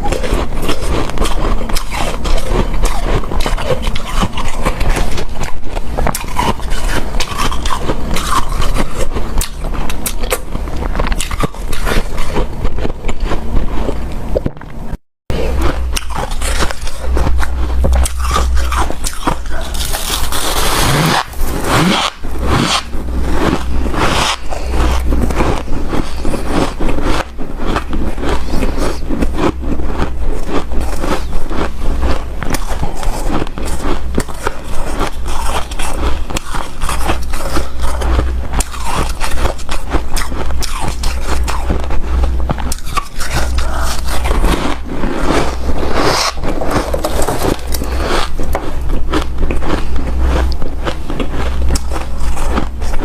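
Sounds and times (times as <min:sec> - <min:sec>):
crunching of chewed ice: 0:00.0 - 0:14.6, 0:15.3 - 0:53.0
steady low hum: 0:00.0 - 0:53.0.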